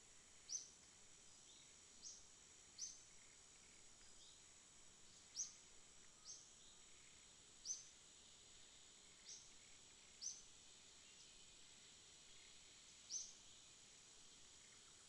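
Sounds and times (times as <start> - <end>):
high-pitched insect hum: 0.0 - 15.0.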